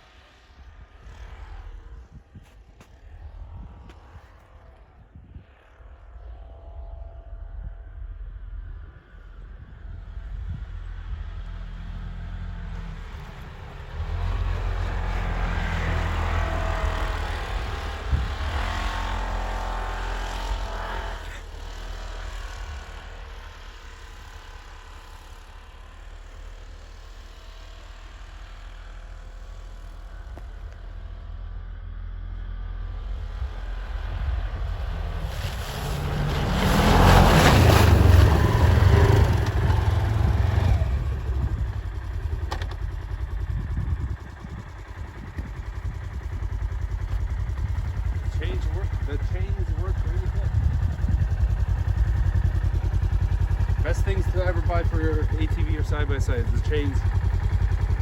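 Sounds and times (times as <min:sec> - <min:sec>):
vehicle engine running: 0:06.2 - 0:58.0.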